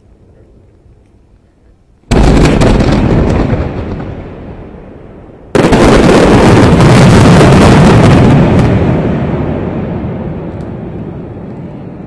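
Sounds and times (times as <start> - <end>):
fireworks bangs and crackling: 2.1 - 12.0.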